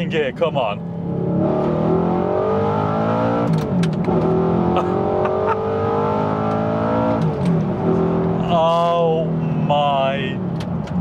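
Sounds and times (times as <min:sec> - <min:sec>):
car engine accelerating hard: 0:00.9 - 0:11.0.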